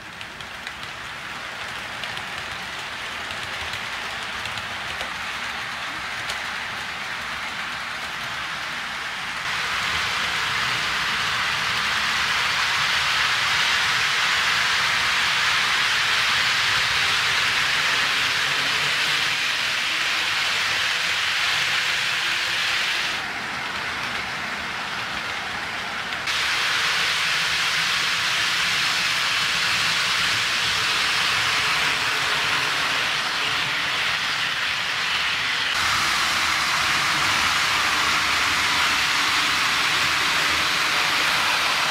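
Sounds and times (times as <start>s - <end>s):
model train wheels rattling on rails: 0.0s - 41.9s.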